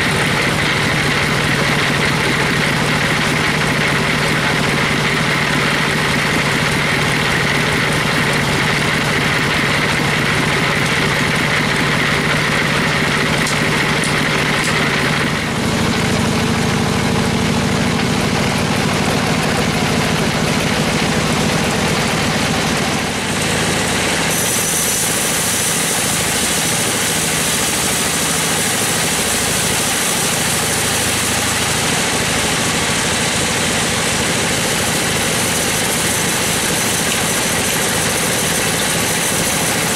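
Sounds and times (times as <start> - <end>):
bandsaw running: 0.0 - 39.9
engine drone: 0.0 - 39.9.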